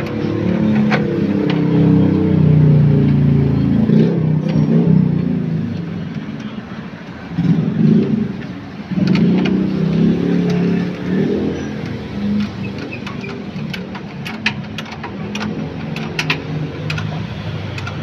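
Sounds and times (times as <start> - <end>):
car engine revving: 0.0 - 6.1, 7.3 - 18.0.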